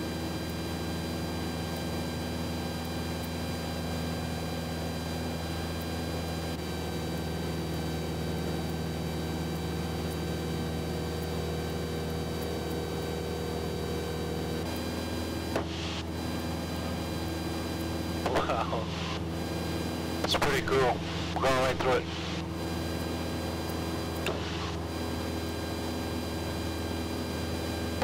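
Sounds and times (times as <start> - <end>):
aircraft engine and propeller droning: 0.0 - 28.0.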